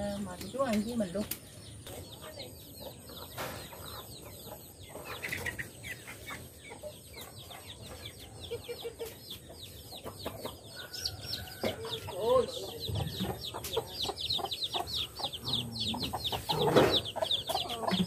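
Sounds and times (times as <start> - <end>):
chickens clucking: 0.0 - 18.0
chicks peeping: 0.0 - 18.0.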